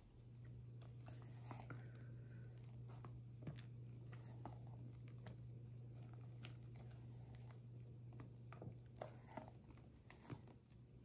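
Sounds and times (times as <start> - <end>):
spatula squishing whipped cream: 0.0 - 11.0
steady low hum: 0.0 - 11.0.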